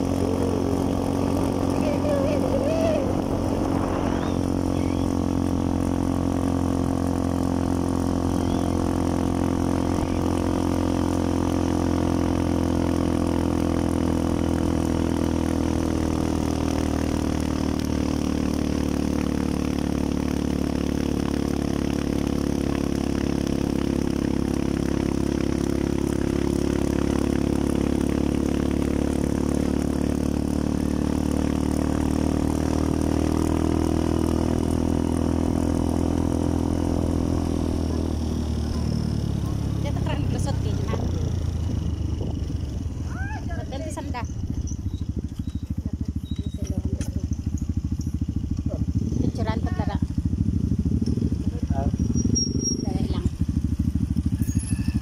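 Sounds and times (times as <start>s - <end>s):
small motorcycle engine running: 0.0s - 55.0s.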